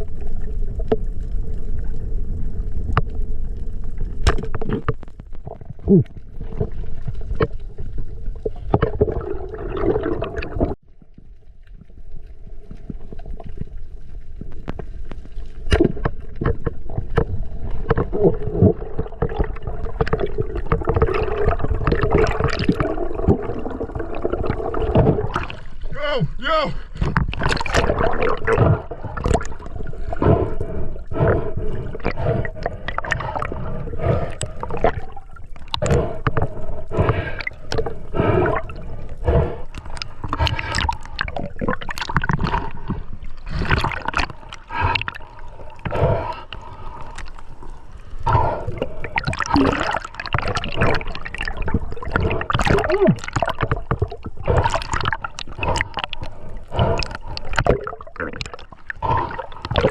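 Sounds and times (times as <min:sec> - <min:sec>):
water gurgling and sloshing: 0:00.0 - 0:59.9.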